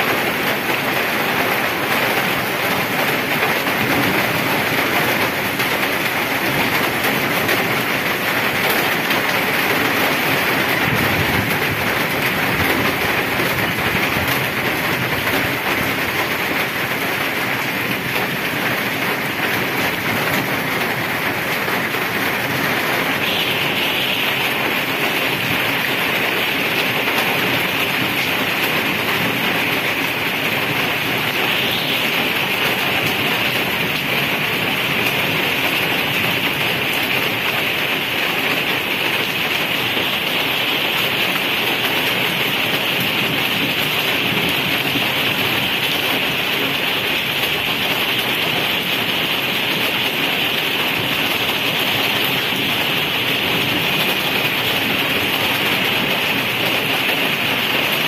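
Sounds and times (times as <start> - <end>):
heavy rain splashing into water: 0.0 - 58.0.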